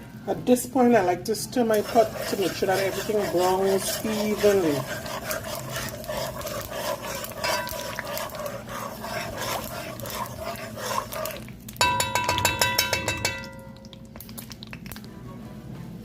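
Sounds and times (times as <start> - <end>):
spoon stirring and scraping pot: 0.9 - 14.8.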